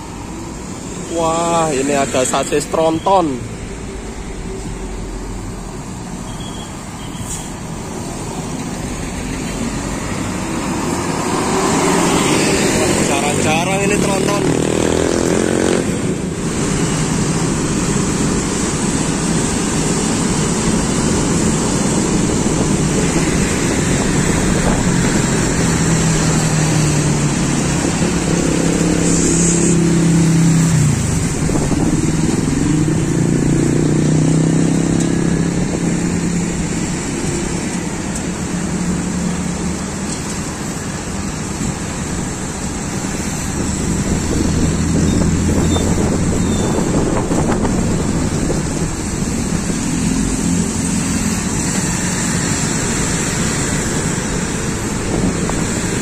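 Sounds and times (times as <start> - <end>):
road traffic: 0.0 - 56.0.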